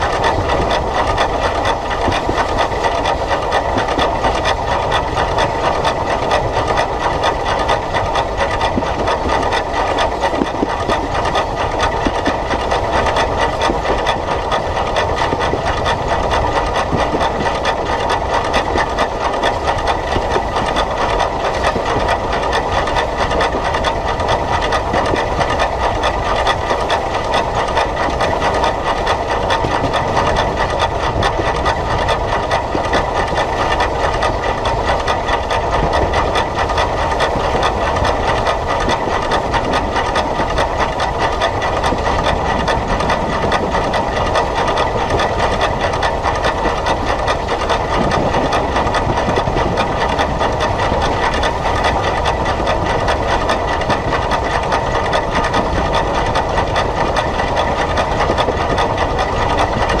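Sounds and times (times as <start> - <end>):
steam locomotive running: 0.0 - 60.0.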